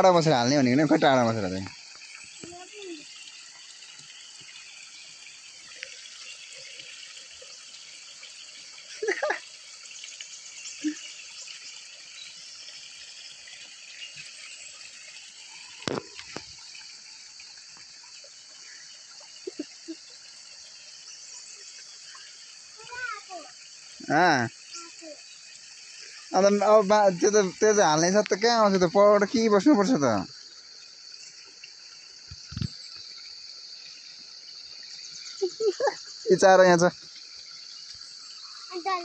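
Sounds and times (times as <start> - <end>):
high insect drone: 0.0 - 39.0
stream trickling: 0.0 - 39.0.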